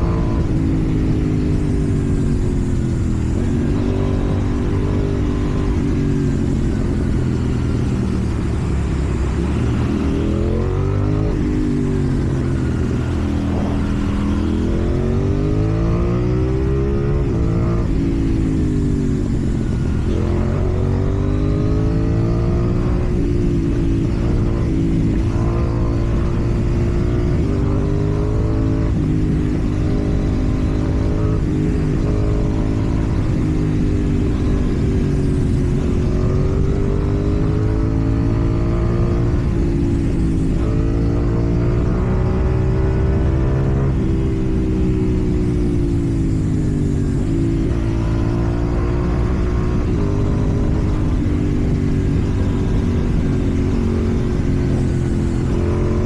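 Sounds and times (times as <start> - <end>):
motorcycle engine revving: 0.0 - 56.0
road and wind rumble: 0.0 - 56.0.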